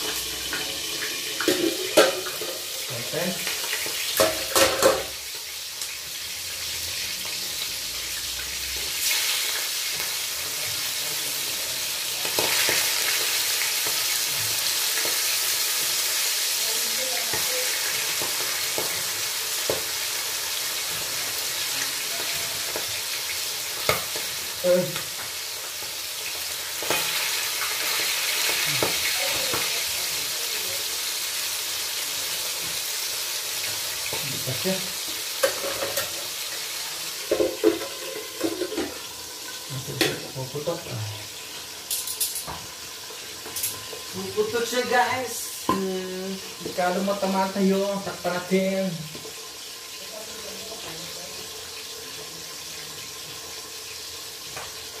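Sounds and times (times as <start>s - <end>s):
fish sizzling in oil: 0.0s - 55.0s.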